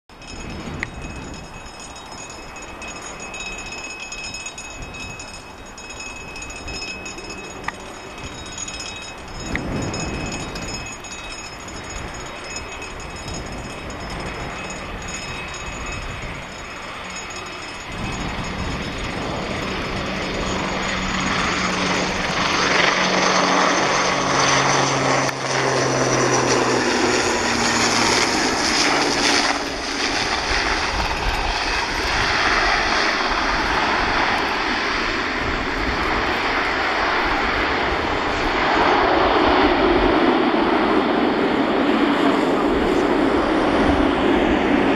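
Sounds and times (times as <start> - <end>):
turboprop plane landing: 0.1 - 44.9.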